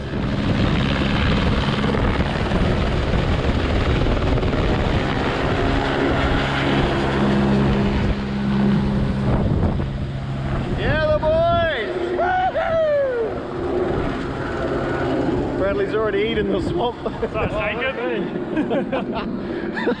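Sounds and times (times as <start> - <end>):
helicopter flying: 0.0 - 20.0.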